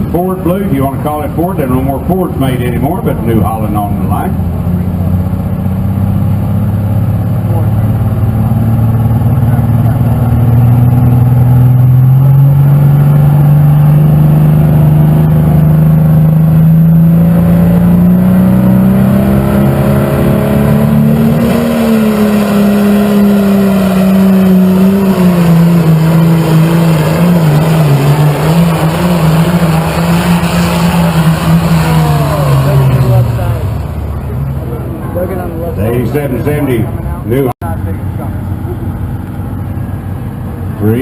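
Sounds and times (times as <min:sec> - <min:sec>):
tractor engine at full throttle: 0:00.0 - 0:41.0.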